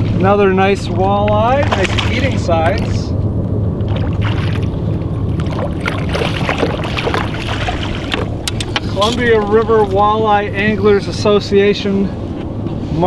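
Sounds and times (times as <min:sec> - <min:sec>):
boat motor running: 0:00.0 - 0:12.6
water: 0:00.0 - 0:13.0
wind: 0:00.0 - 0:13.0.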